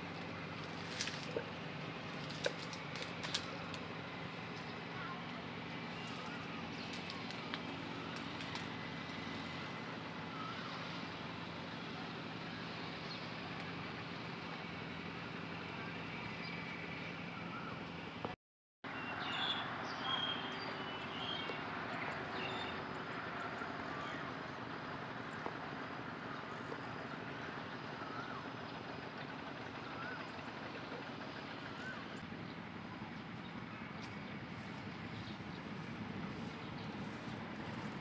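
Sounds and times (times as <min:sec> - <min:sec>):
birds calling: 0:00.0 - 0:18.1, 0:18.9 - 0:38.0
steady outdoor hiss: 0:00.0 - 0:38.0.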